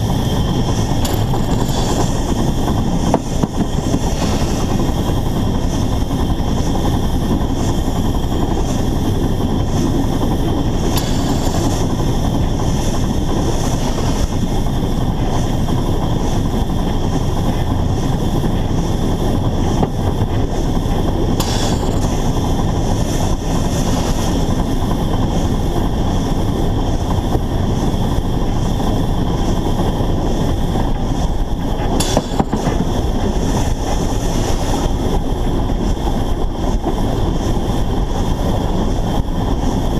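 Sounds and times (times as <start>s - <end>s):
steam locomotive wheels rumbling: 0.0s - 39.9s.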